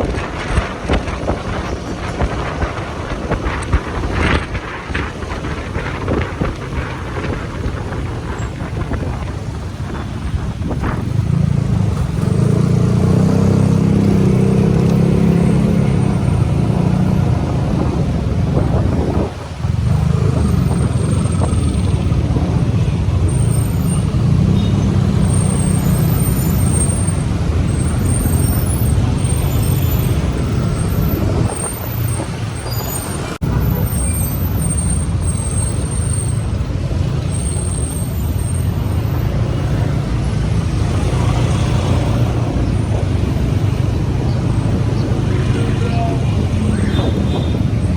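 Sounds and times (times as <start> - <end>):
road traffic: 0.0 - 47.9
wind on microphone: 0.0 - 47.9
motorcycle engine: 3.9 - 47.9.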